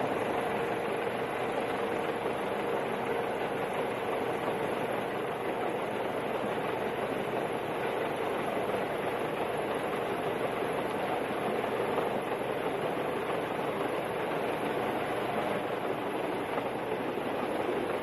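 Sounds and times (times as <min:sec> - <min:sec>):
helicopter rotor and engines: 0:00.0 - 0:18.0.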